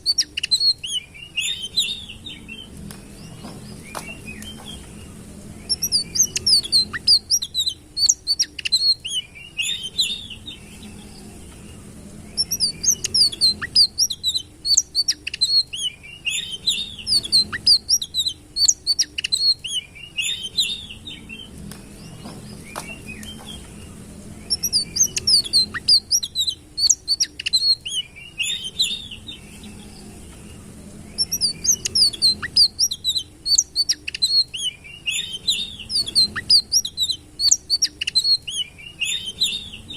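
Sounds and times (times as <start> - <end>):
bird chirping and trilling: 0.0 - 39.9
faint low hum: 0.0 - 39.9.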